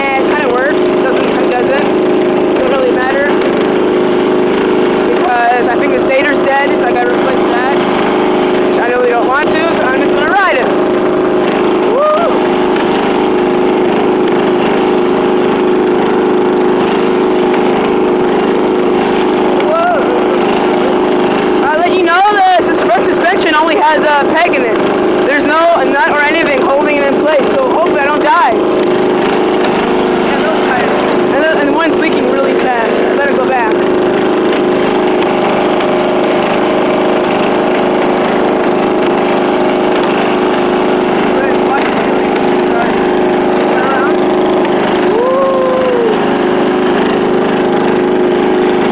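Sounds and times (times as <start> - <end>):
riding lawn mower engine: 0.0 - 48.9.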